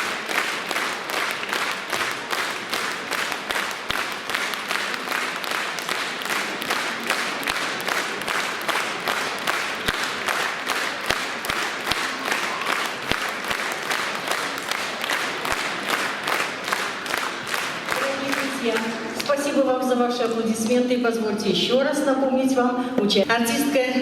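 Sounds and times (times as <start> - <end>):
audience applauding: 0.0 - 19.4.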